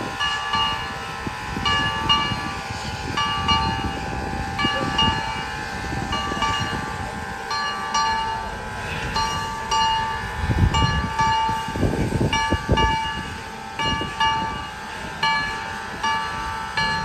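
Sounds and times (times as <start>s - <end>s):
locomotive bell ringing: 0.0s - 17.0s
steam engine chuffs: 0.0s - 17.0s.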